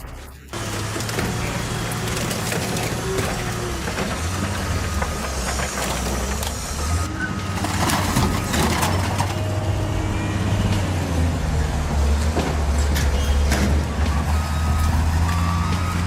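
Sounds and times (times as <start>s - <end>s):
heavy machine engine droning: 0.0s - 16.0s.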